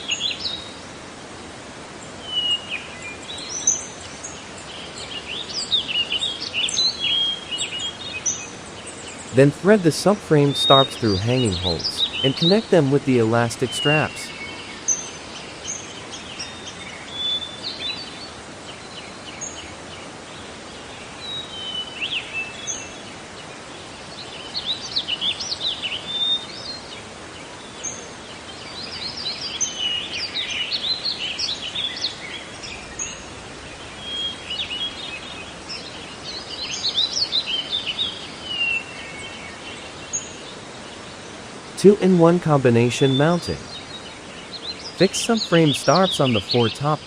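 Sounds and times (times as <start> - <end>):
steady background hiss: 0.0 - 47.0
wild birds singing and chirping: 2.2 - 9.4, 10.4 - 41.8, 43.0 - 47.0.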